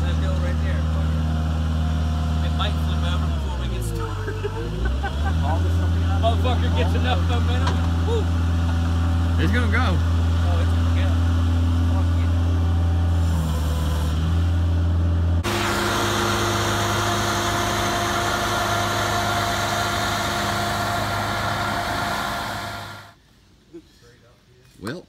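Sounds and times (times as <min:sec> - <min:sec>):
skid-steer loader engine running: 0:00.0 - 0:23.2
vehicle engine humming: 0:00.0 - 0:23.2.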